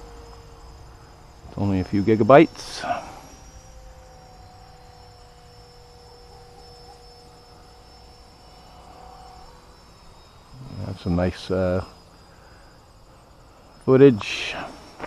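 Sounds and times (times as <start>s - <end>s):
crickets chirping: 0.0s - 15.0s
electric ducted fans humming: 0.0s - 15.0s.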